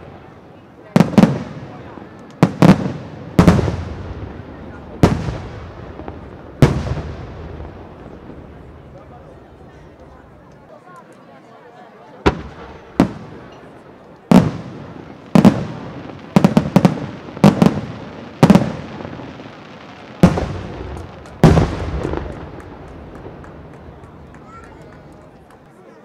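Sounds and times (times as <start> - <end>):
firework bangs with rolling echo: 0.0 - 9.7, 12.2 - 25.6
firework cracks: 1.0 - 9.1, 12.2 - 25.7.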